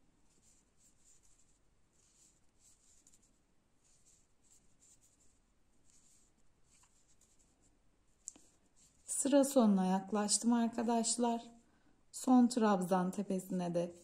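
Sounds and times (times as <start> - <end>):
yarn rustling on crochet hook: 0.0 - 11.6.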